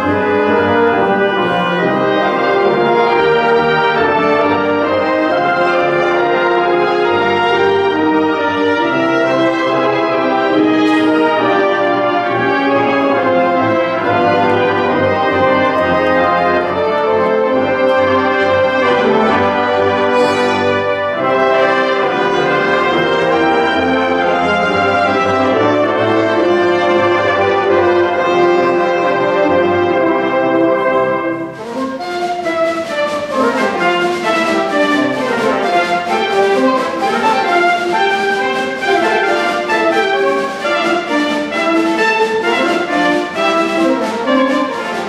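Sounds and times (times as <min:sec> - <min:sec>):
wind band playing brass chords: 0:00.0 - 0:45.0.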